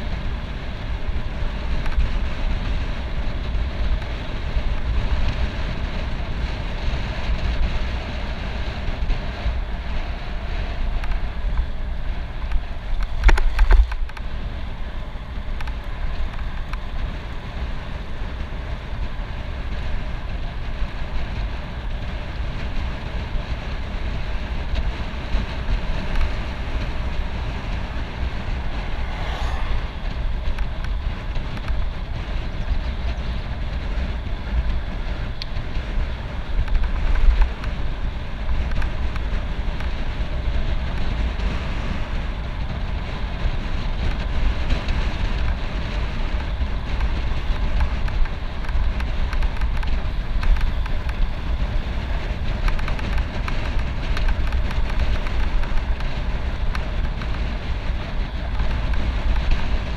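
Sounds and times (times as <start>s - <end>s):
bicycle tyre and wind rumble: 0.0s - 59.9s.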